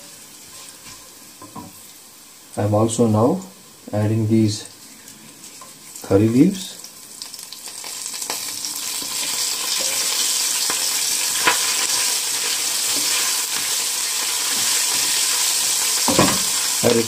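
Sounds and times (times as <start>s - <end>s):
leaves sizzling in hot oil: 0.0s - 17.0s.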